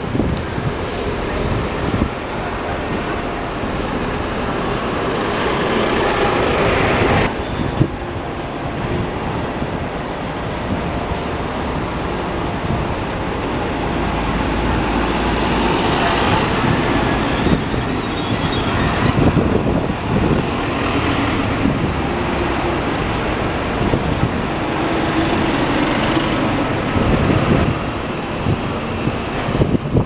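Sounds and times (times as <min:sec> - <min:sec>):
traffic noise: 0:00.0 - 0:30.0.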